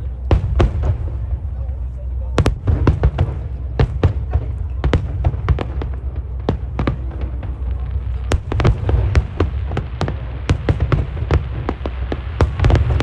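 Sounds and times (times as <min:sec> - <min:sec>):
fireworks bangs and pops: 0:00.0 - 0:01.8, 0:02.4 - 0:13.0
steady low rumble: 0:00.0 - 0:13.0.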